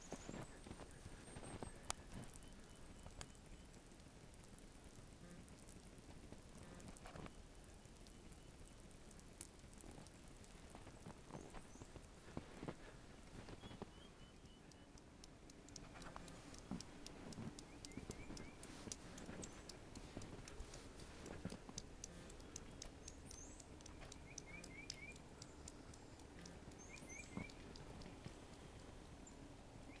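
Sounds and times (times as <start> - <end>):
light ticks and patter: 0.0 - 30.0
small birds chirping: 0.0 - 30.0.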